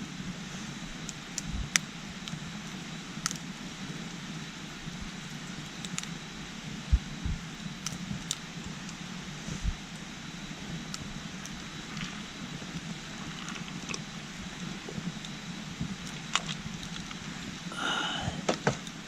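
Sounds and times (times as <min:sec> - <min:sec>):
campfire crackling and popping: 0:00.8 - 0:19.0.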